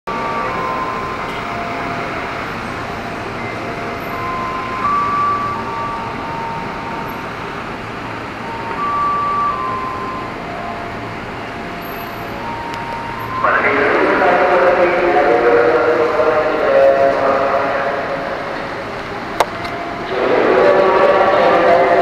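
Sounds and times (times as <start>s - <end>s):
city traffic: 0.1s - 22.0s
electric train at platform: 0.1s - 22.0s.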